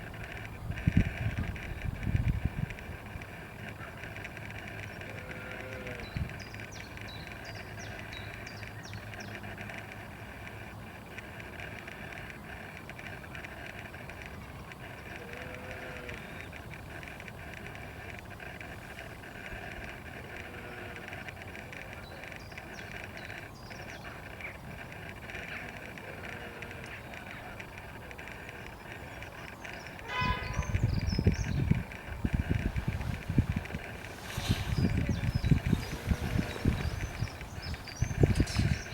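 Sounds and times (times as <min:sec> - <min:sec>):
outdoor ambient noise: 0:00.0 - 0:38.9.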